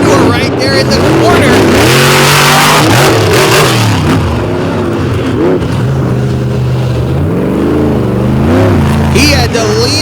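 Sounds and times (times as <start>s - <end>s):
monster truck engines revving: 0.0s - 10.0s.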